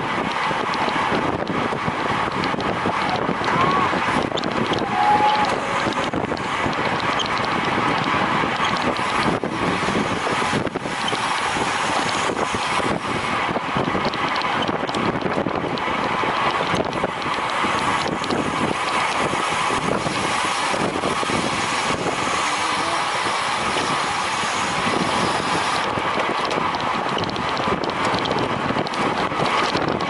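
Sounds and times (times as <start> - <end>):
wind rush over microphone: 0.0 - 30.0.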